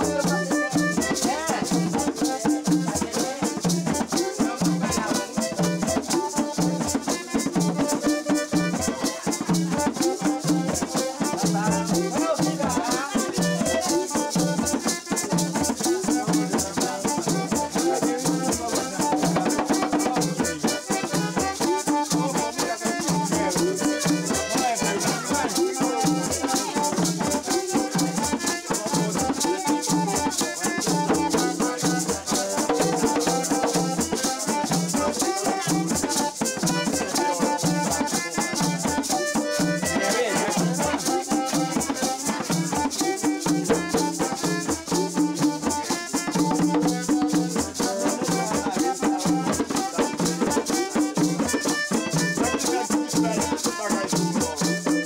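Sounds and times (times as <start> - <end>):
accordion melody: 0.0 - 55.0
hand drums: 0.0 - 55.0
hand shaker rattling: 0.0 - 55.0.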